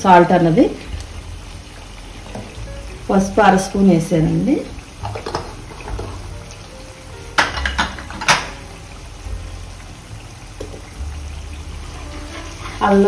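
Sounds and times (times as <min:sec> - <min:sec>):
paste sizzling in oil: 0:00.2 - 0:13.0.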